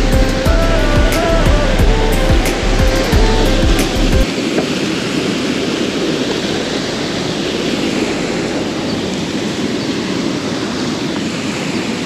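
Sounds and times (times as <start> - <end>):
fast-flowing stream rushing: 0.0 - 12.0.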